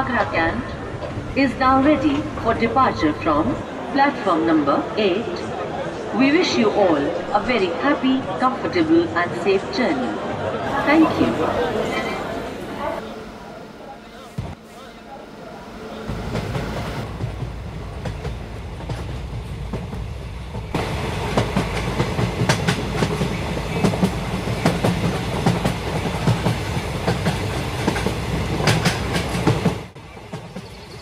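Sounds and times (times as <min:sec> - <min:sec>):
train rumbling on rails: 0:00.0 - 0:31.0.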